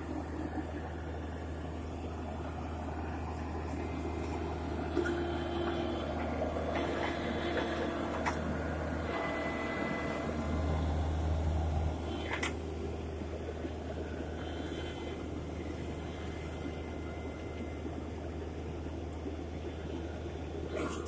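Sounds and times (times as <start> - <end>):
drilling rig engine droning: 0.0 - 21.0.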